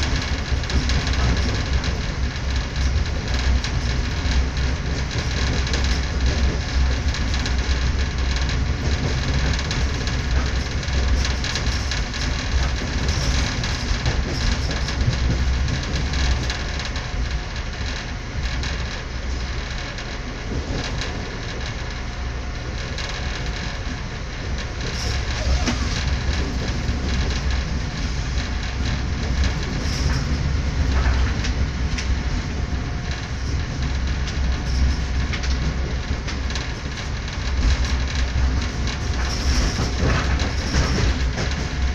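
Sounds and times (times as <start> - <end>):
train rumble inside carriage: 0.0 - 41.9
wheels clicking on rails: 0.0 - 41.9.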